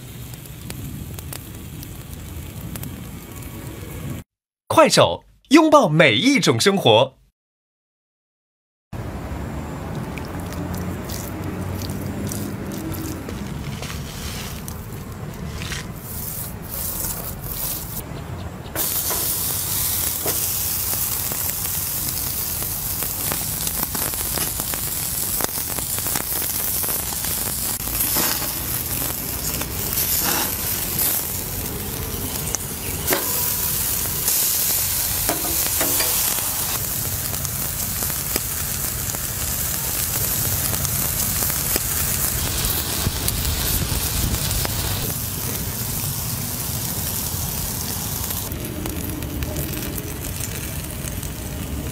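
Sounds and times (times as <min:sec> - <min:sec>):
ribs sizzling on grill: 0:00.0 - 0:04.2, 0:09.9 - 0:18.0, 0:18.8 - 0:51.9.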